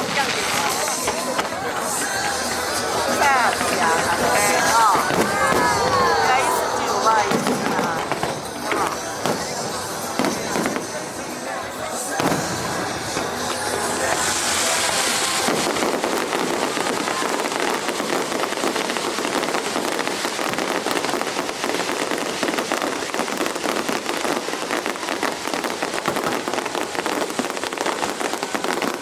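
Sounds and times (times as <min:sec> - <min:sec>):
fireworks crackling: 0:00.0 - 0:29.0.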